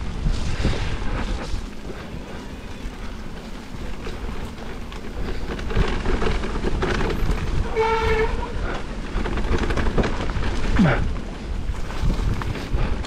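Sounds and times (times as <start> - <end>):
bike rattling and knocking: 0.0 - 13.0
wind rushing over microphone: 0.0 - 13.0.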